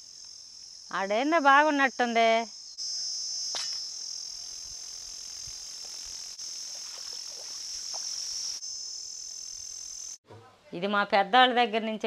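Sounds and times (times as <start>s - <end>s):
shrill insect chorus: 0.0s - 10.2s.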